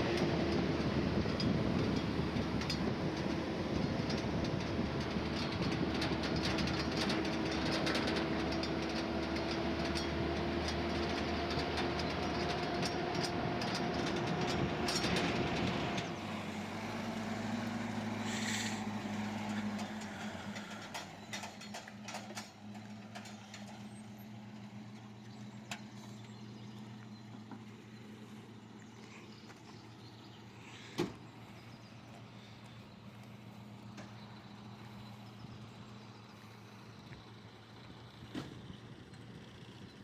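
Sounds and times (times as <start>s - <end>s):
engine humming: 0.0s - 40.0s.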